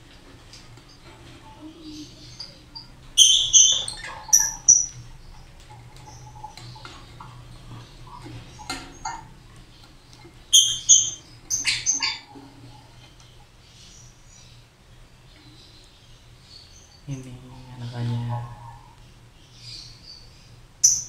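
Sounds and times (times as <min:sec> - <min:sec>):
lovebirds chirping: 0:00.4 - 0:21.0.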